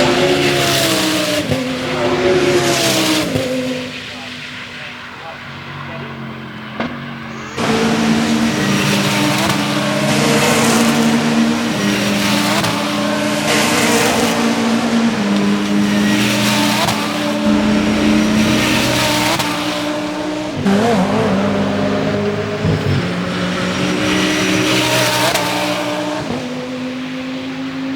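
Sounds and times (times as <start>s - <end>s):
race car engine revving through gears: 0.0s - 27.9s.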